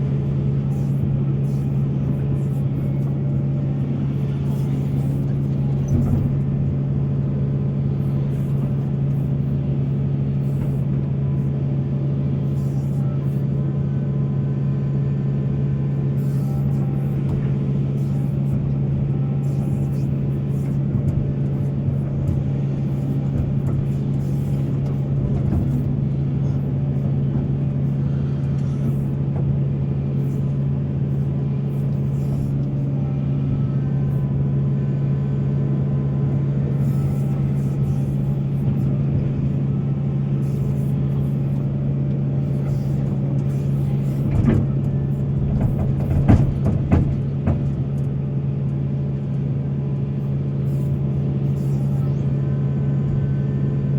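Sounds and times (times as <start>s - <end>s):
heavy diesel engine droning: 0.0s - 53.9s.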